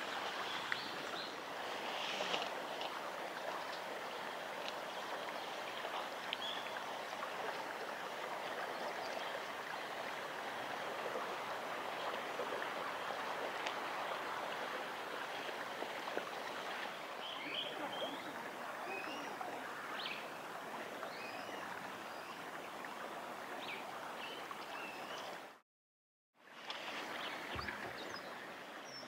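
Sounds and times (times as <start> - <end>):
stream water running over stones: 0.0 - 25.6.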